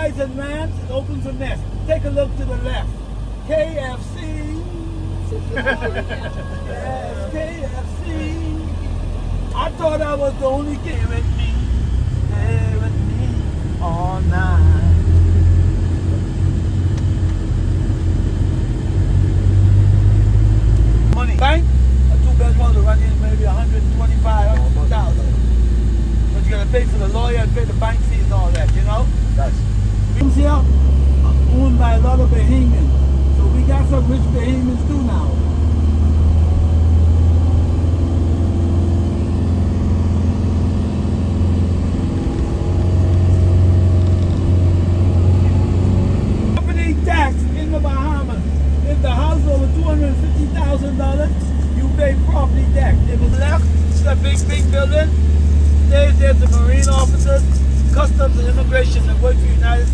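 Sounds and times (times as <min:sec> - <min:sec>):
road noise: 0:00.0 - 0:59.9
van engine running: 0:00.0 - 0:59.9.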